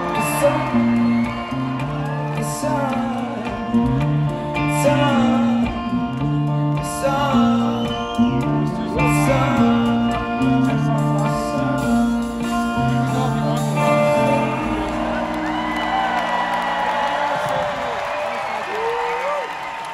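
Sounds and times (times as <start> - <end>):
person singing: 0.0 - 17.9
live rock band: 0.0 - 19.9.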